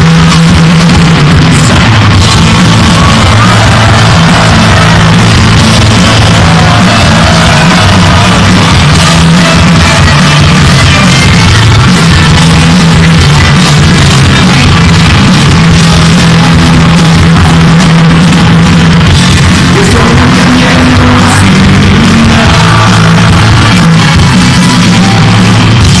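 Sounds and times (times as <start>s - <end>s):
bass guitar: 0.0s - 26.0s
drum kit: 0.0s - 26.0s
electric guitars: 0.0s - 26.0s.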